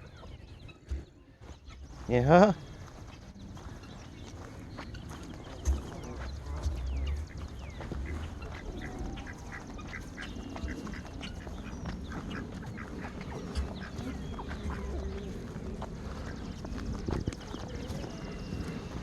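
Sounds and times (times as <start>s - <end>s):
geese chattering: 0.0s - 19.0s
wind rumbling on microphone: 0.0s - 19.0s.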